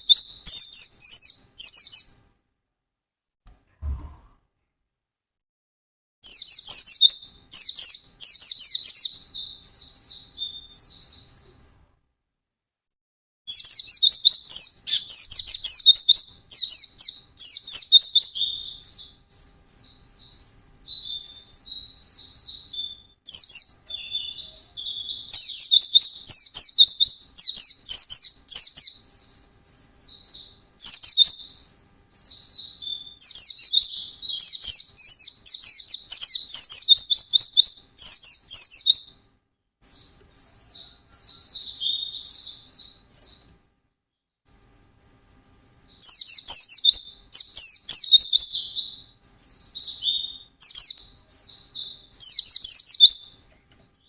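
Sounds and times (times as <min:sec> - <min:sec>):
white-eye twittering song: 0:00.0 - 0:02.2, 0:06.2 - 0:11.6, 0:13.5 - 0:39.2, 0:39.8 - 0:43.6, 0:44.5 - 0:54.0.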